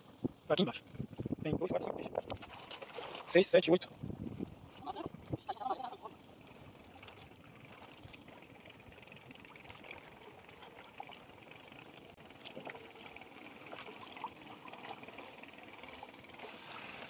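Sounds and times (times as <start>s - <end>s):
water trickling and lapping: 0.0s - 17.0s
water drips and splashes: 2.1s - 17.0s.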